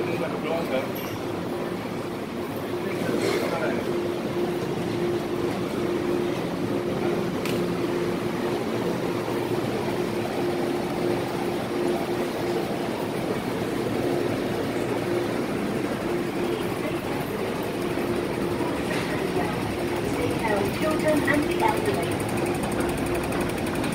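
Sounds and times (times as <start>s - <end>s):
wheel-on-rail rumble: 0.0s - 23.9s.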